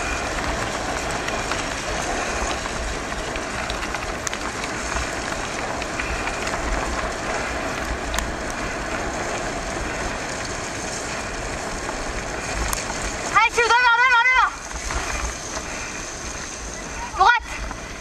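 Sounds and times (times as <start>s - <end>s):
small clicks and rattles: 0.0s - 17.0s
bike tyres rolling on dirt: 0.0s - 18.0s
wind buffeting microphone: 0.0s - 18.0s.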